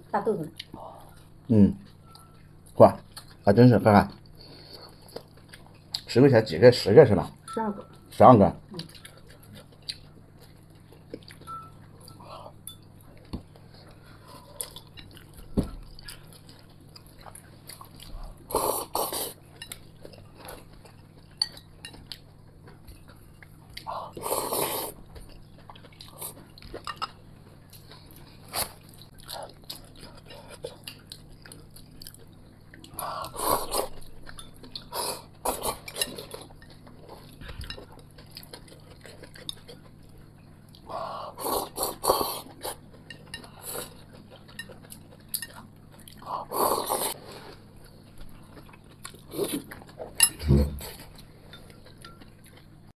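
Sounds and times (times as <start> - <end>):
close-up chewing: 8.7 - 52.9.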